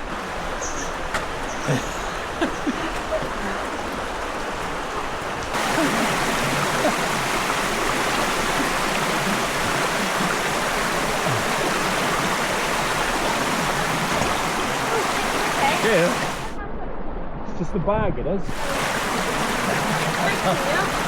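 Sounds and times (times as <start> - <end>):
fast-flowing water rushing: 0.0 - 16.6, 18.5 - 21.0.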